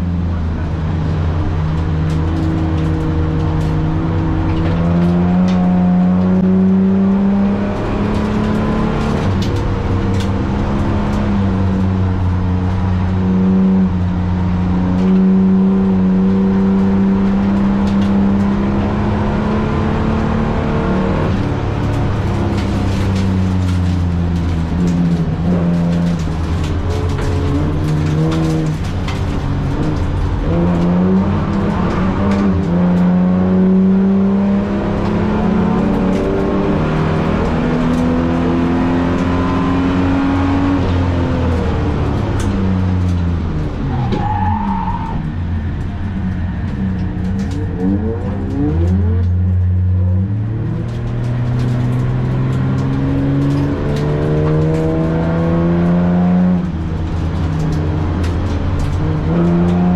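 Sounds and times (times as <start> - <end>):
car engine driven hard: 0.0 - 59.9.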